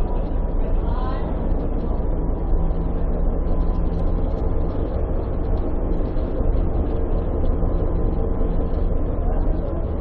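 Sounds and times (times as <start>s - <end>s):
tram wheels on rails: 0.0s - 10.0s.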